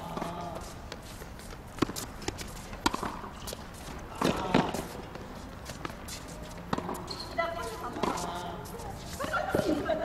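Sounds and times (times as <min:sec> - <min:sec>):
players' footsteps: 0:00.0 - 0:10.0.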